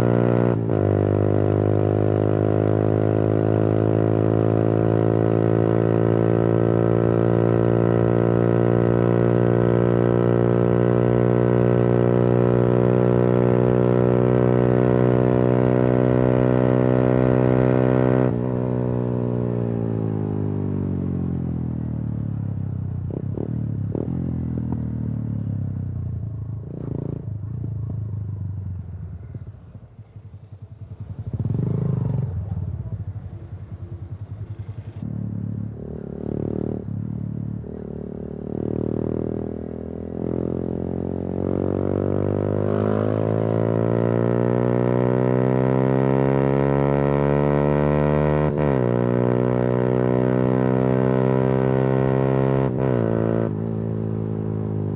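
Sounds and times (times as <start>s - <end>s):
motorcycle engine revving: 0.0s - 20.6s, 29.9s - 54.9s.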